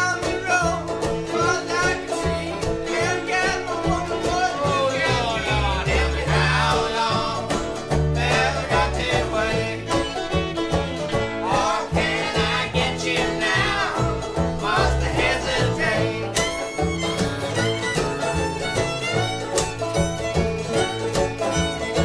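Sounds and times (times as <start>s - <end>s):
banjo and guitar picking: 0.0s - 22.0s
steady bass: 0.0s - 22.0s.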